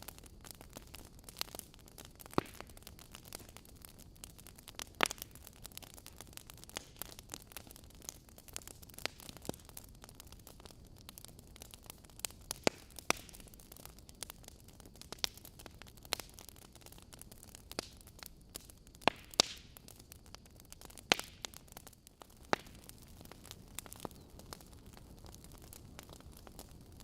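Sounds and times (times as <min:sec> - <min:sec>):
fire crackling and popping: 0:00.0 - 0:27.0
soft fire hiss: 0:00.0 - 0:27.0.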